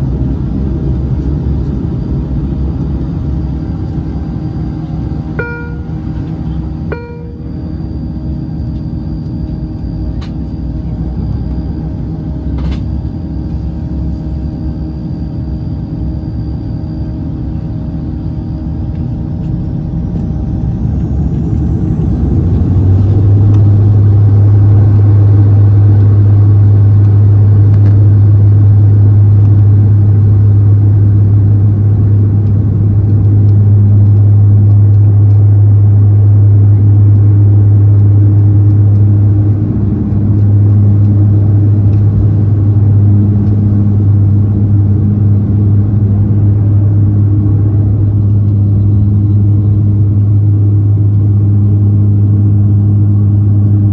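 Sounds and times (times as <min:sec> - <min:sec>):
low propeller drone: 0:00.0 - 0:53.9
turboprop engines spooling up: 0:00.0 - 0:53.9.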